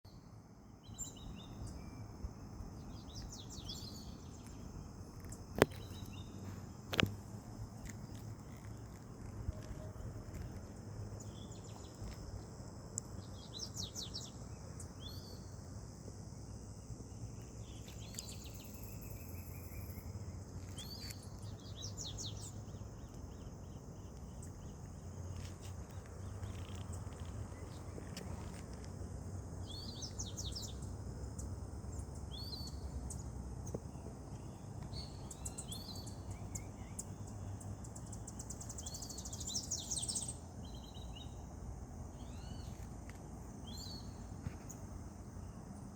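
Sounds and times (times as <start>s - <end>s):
low outdoor rumble: 0.1s - 45.9s
small birds chirping: 0.1s - 45.9s.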